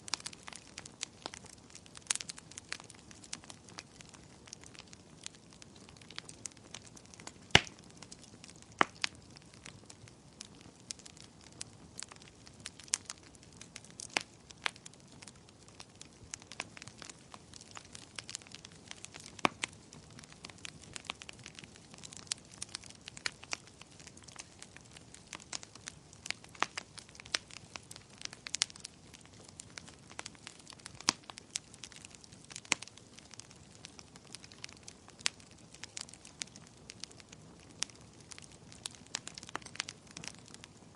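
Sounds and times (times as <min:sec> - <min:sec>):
wood fire hissing and crackling: 0:00.0 - 0:40.9
sharp pops of burning wood: 0:00.1 - 0:40.9.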